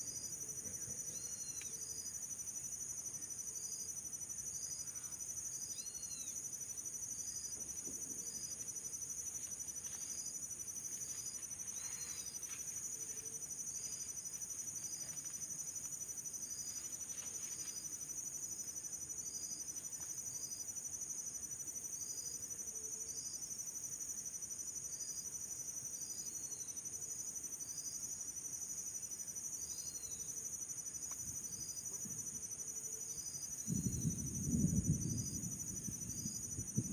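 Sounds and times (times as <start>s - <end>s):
insect chorus trilling: 0.1s - 36.9s.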